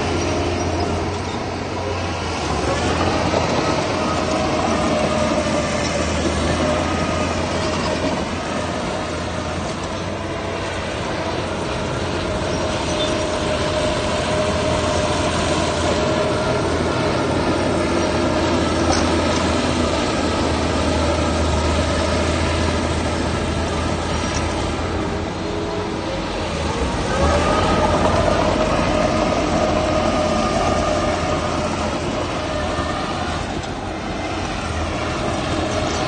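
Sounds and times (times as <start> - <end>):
diesel machinery engine drone: 0.0 - 36.0.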